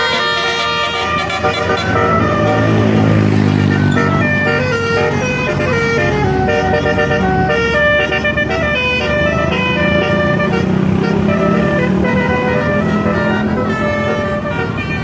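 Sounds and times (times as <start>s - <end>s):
bus engine rumble: 0.0s - 15.0s
musical air horn tune: 0.0s - 15.0s.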